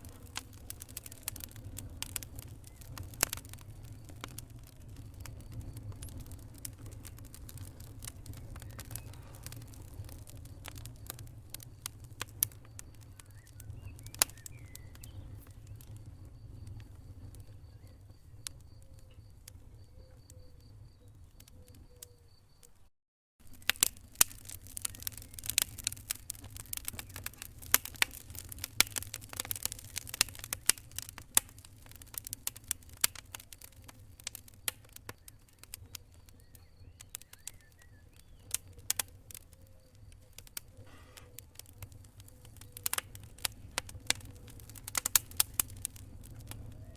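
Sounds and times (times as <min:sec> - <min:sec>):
low rumble of flame: 0:00.0 - 0:22.7, 0:23.4 - 0:46.9
wood fire crackling: 0:00.0 - 0:22.7, 0:23.4 - 0:46.9.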